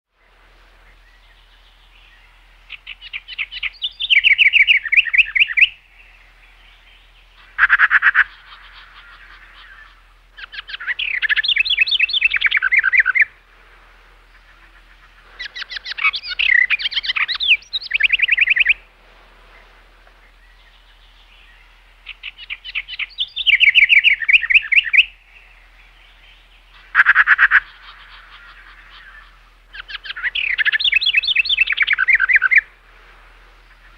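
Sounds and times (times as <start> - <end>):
faint steady hum: 0.1 - 33.9
songbird singing: 0.1 - 33.9.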